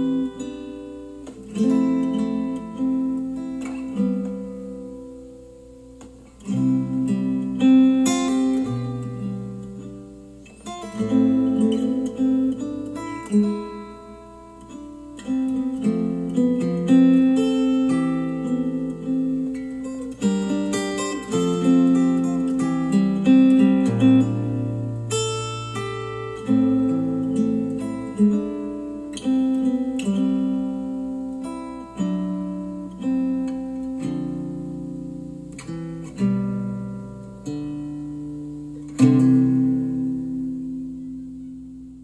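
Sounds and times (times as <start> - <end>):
acoustic guitar music: 0.0 - 42.0.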